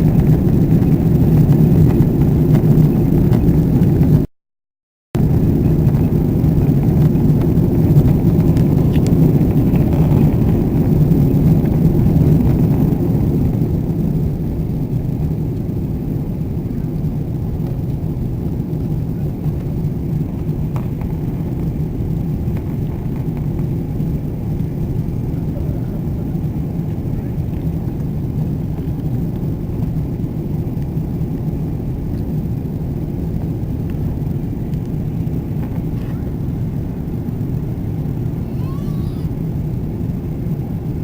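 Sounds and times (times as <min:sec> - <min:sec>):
jet engines roaring: 0:00.0 - 0:04.3, 0:05.2 - 0:41.0.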